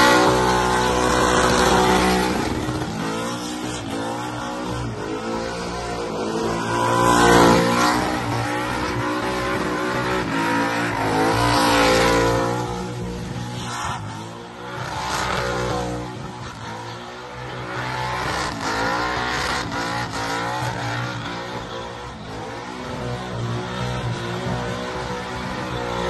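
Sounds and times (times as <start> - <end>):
car engine revving high: 0.0 - 26.0.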